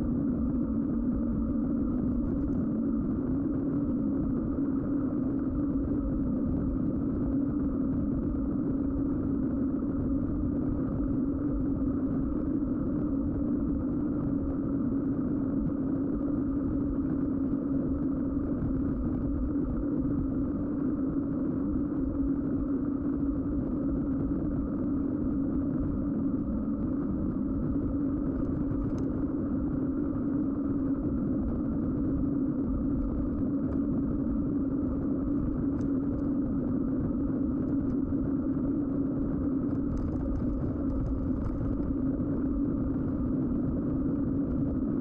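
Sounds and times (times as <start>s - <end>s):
wind noise: 0.0s - 45.0s.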